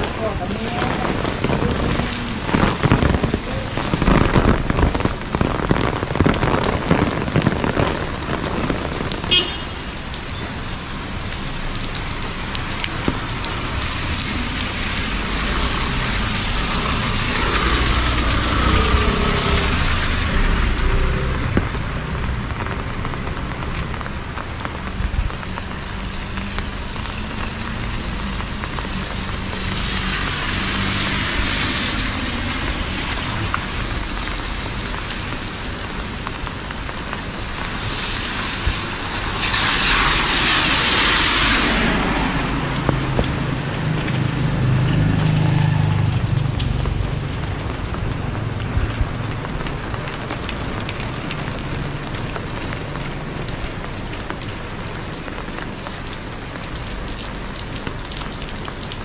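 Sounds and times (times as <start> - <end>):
rain falling on a street: 0.0 - 59.0.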